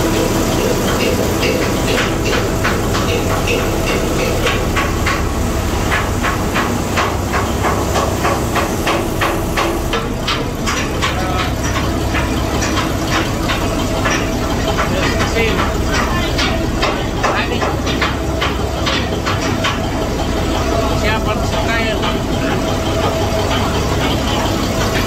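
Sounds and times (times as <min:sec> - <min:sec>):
diesel engine rumbling: 0:00.0 - 0:25.0
rapid metallic clatter: 0:00.0 - 0:25.0.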